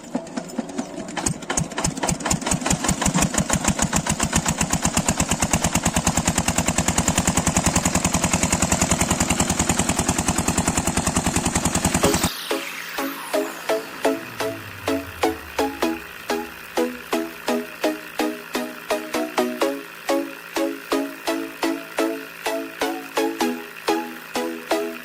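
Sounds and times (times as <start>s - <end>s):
engine starting and chugging: 0.0s - 25.0s.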